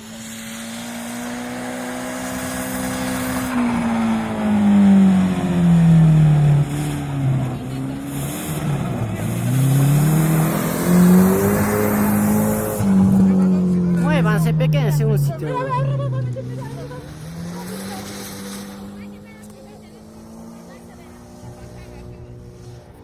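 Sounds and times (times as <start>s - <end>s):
rally car engine: 0.0s - 23.0s.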